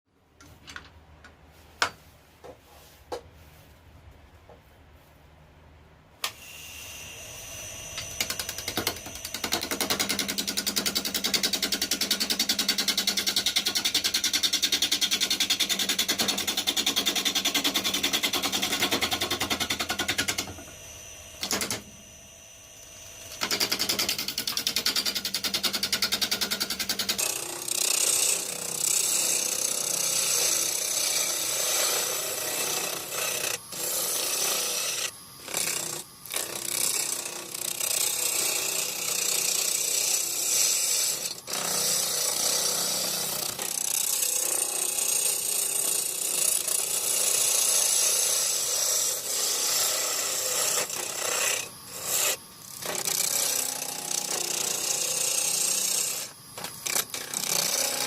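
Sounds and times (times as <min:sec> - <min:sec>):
lathe tool scraping wood: 0:07.0 - 0:58.0.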